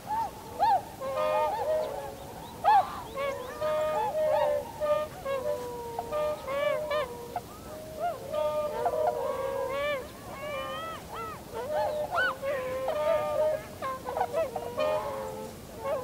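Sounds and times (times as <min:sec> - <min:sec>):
swans honking and bugling: 0:00.0 - 0:16.0.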